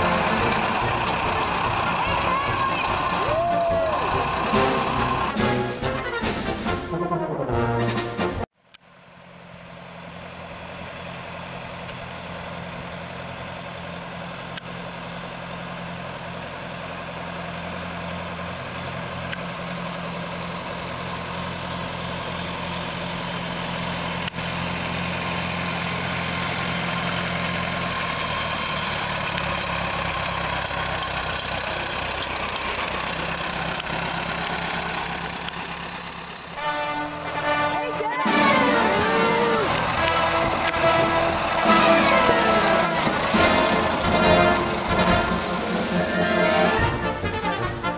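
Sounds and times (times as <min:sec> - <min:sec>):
tractor engine running: 0:00.0 - 0:07.3, 0:07.9 - 0:47.9.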